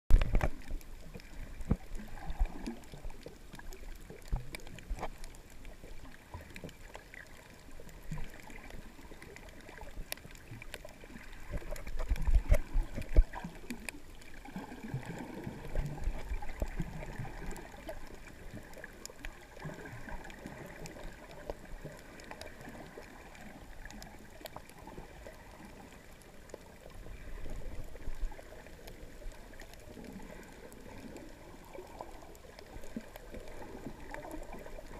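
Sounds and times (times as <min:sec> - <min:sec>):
faint clicks: 0:00.1 - 0:34.9
underwater gurgling and sloshing: 0:00.1 - 0:34.9.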